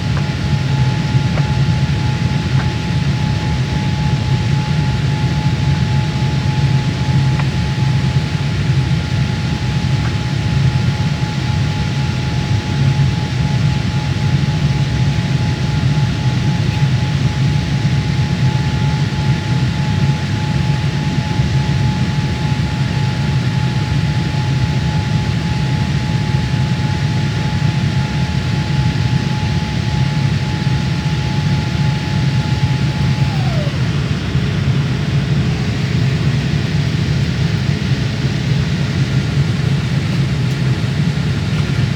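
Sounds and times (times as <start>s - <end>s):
high engine whine: 0.0s - 41.9s
jet engine cabin rumble: 0.0s - 41.9s.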